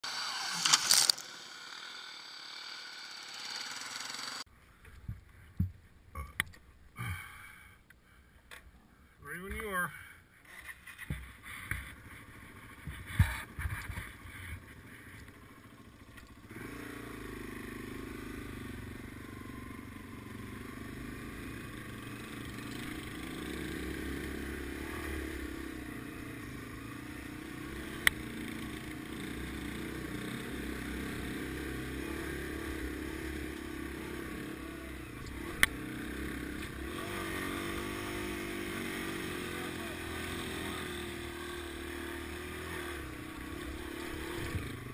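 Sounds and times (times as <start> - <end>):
motorcycle engine running: 0.0 - 4.5, 11.2 - 44.9.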